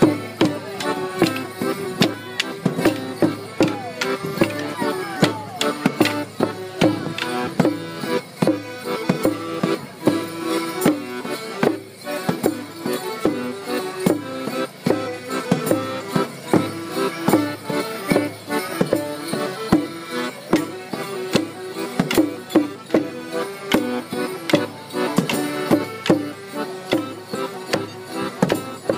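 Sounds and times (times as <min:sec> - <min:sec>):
folk dance tune: 0:00.0 - 0:28.9.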